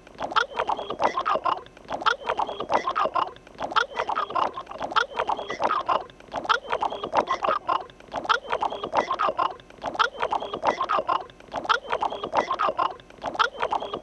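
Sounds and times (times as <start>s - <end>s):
cartoon animal chattering: 0.2s - 14.0s.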